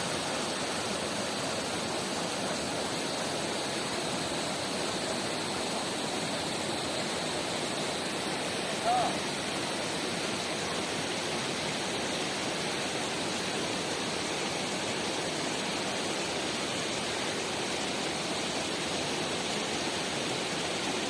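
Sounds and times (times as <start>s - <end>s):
waterfall and river rushing: 0.0s - 21.0s.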